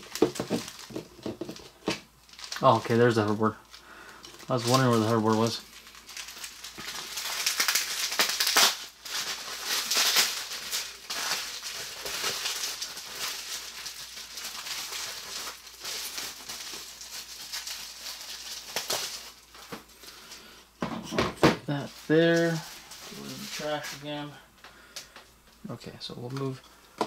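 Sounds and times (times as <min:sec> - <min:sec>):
bubble wrap crinkling: 0:00.0 - 0:20.8, 0:21.7 - 0:27.0.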